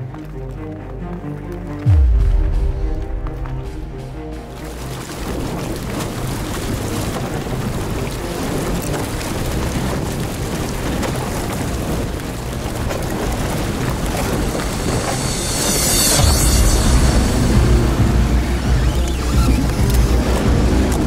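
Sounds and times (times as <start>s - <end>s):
low engine rumble: 1.8s - 21.0s
wheel splashing through slush: 3.4s - 21.0s.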